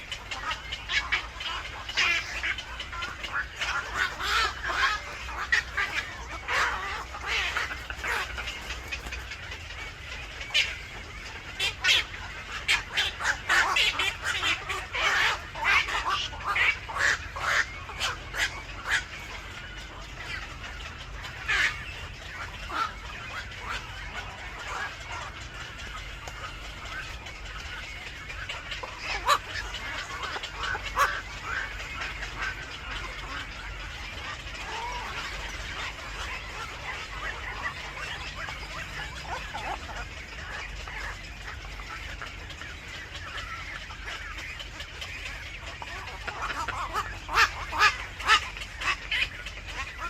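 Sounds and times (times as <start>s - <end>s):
harsh bird calls: 0.0s - 50.0s.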